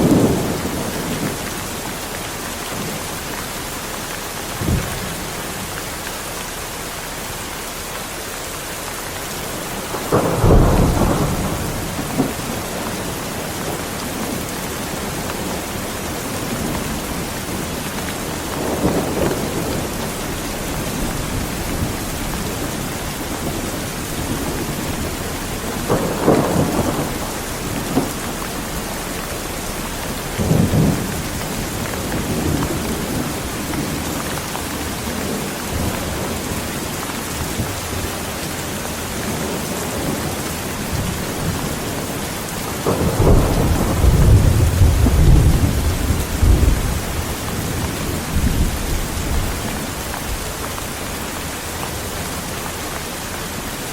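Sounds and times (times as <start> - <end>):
thunder rumbling: 0.0 - 6.0, 9.4 - 52.8
heavy rain falling: 0.0 - 53.9.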